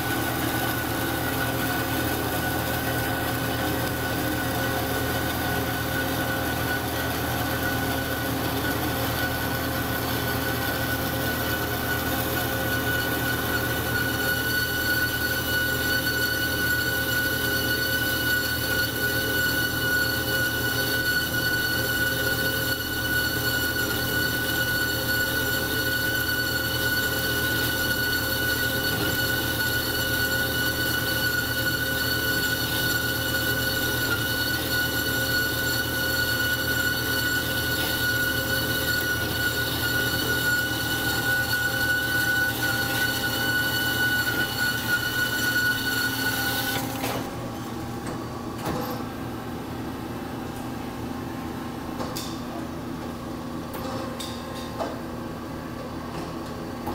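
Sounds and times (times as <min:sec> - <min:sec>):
band saw cutting steel: 0:00.0 - 0:47.3.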